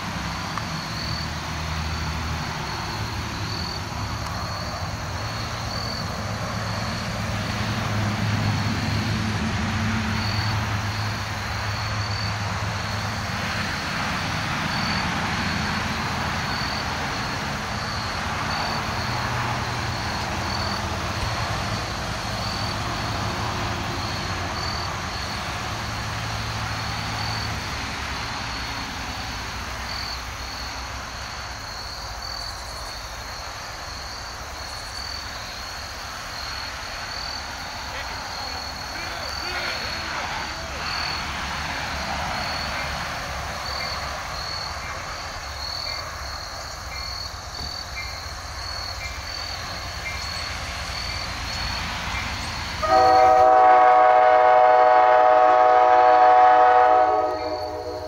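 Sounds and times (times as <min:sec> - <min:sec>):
crickets chirping: 0:00.0 - 0:58.0
diesel locomotive engine droning: 0:00.0 - 0:58.0.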